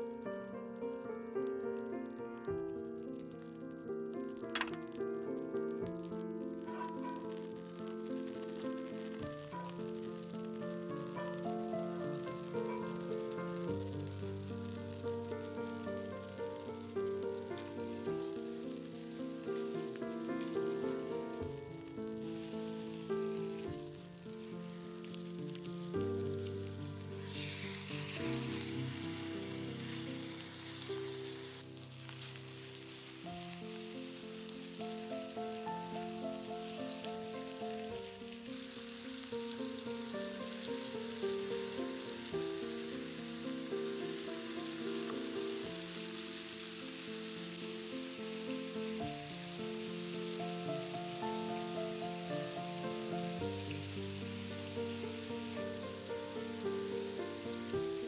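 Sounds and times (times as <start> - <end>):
chicken sizzling in hot oil: 0.0 - 58.0.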